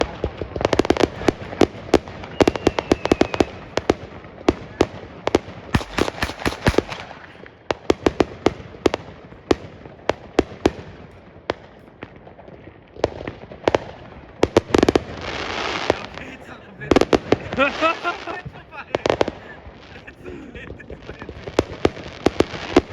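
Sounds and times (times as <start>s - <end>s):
firecrackers crackling pops: 0.0s - 22.9s
fireworks bangs: 0.0s - 22.9s.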